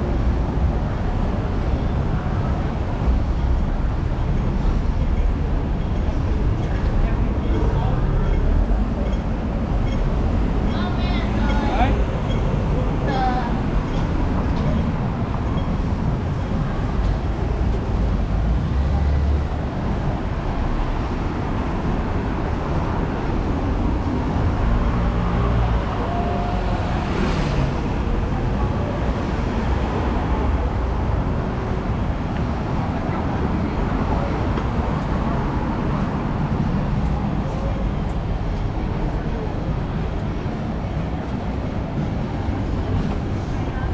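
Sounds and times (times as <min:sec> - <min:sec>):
city street traffic rumble: 0:00.0 - 0:43.9.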